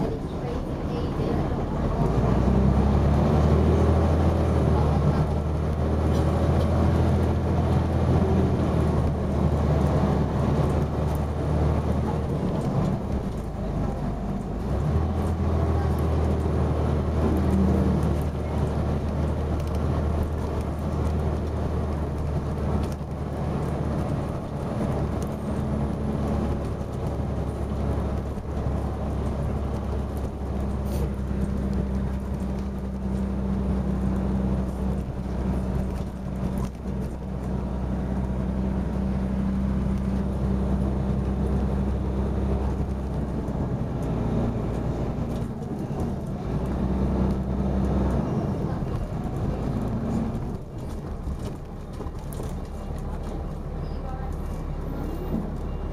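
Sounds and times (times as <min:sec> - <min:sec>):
bus engine under load: 0:00.0 - 0:55.9.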